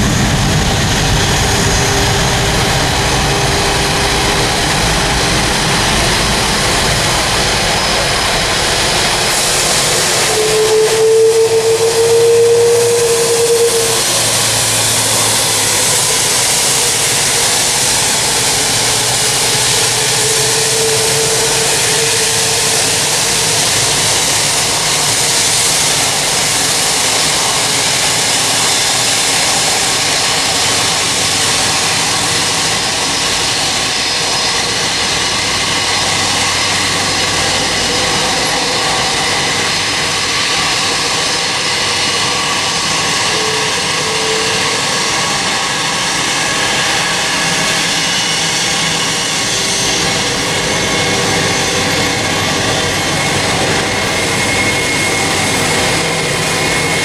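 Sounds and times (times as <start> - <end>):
high jet whine: 0.0 - 57.0
jet engines rushing: 0.0 - 57.0.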